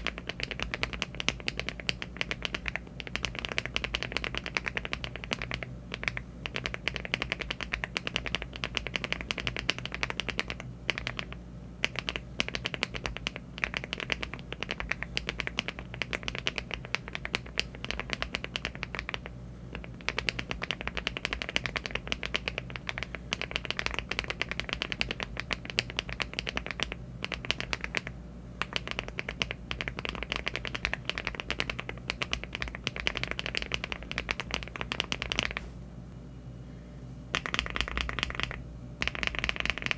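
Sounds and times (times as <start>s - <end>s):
fast typing on mechanical keyboard: 0.0s - 35.6s, 37.4s - 39.9s.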